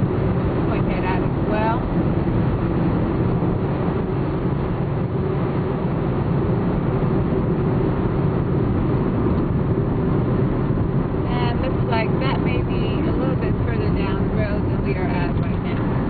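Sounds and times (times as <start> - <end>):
car cabin road and engine noise: 0.0 - 16.0.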